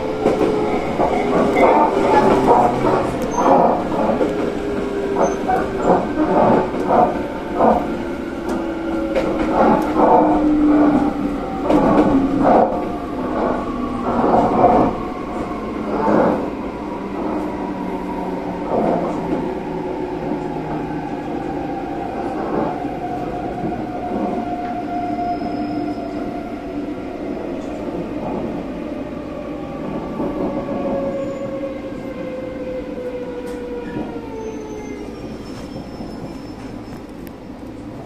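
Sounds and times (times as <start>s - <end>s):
train slowing with falling whine: 0.0s - 38.0s.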